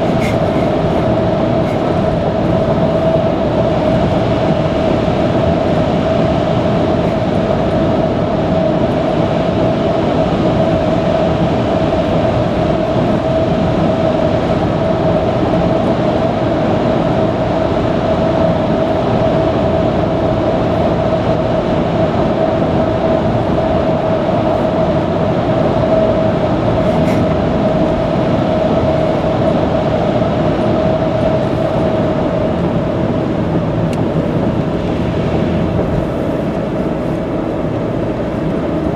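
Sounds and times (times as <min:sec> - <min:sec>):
car tyre and engine noise: 0:00.0 - 0:38.9.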